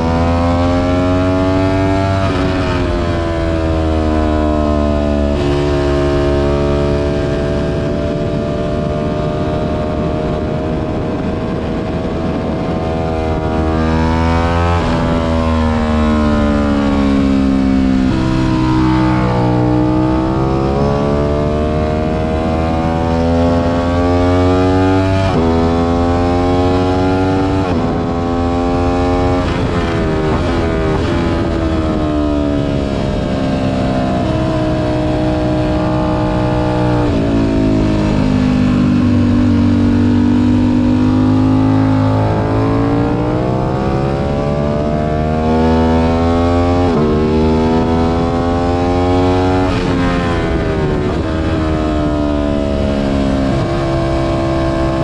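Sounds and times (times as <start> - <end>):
motorcycle engine shifting gears: 0.0 - 55.0.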